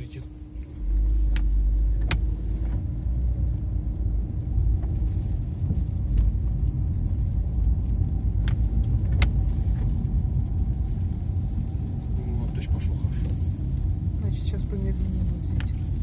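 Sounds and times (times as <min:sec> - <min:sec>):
strong wind gusts rumbling: 0:00.0 - 0:16.0.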